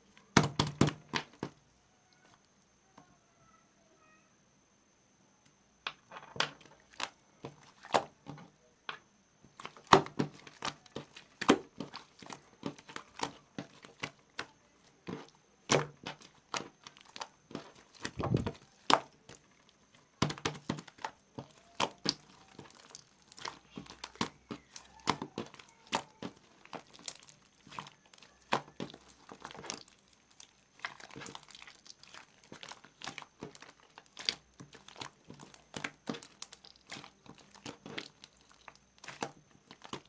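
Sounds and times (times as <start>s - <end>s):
slime squishing with clicks and pops: 0.2s - 3.0s, 5.4s - 40.0s.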